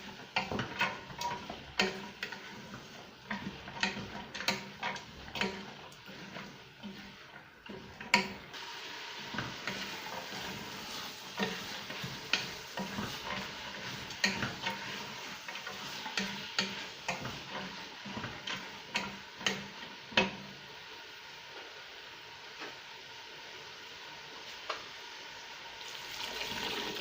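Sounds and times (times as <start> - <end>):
beans frying in oil: 0.0 - 27.0.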